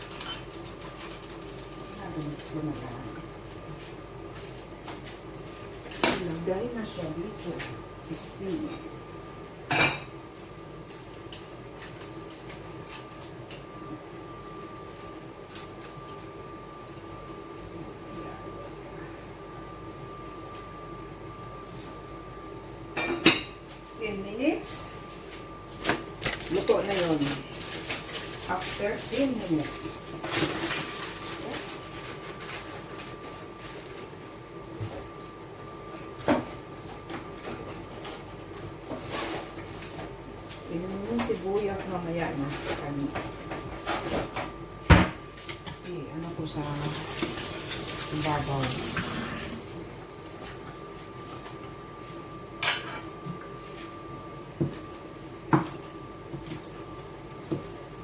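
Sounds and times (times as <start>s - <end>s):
kitchen hum and hiss: 0.0s - 58.0s.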